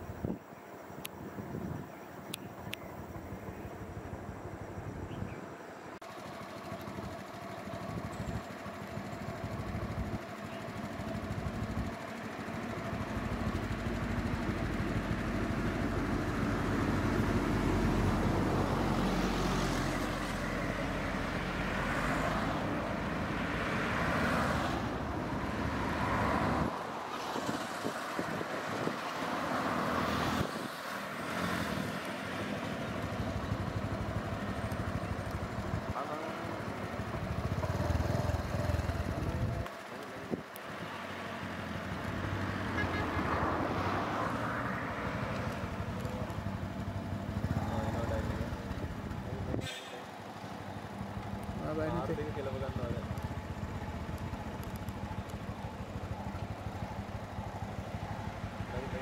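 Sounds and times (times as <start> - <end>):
cars passing: 6.0 - 59.0.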